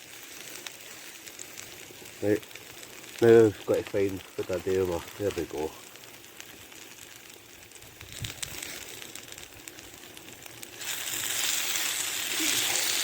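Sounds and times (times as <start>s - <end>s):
hot oil crackling: 0.0s - 13.0s
vegetables sizzling in oil: 0.0s - 13.0s.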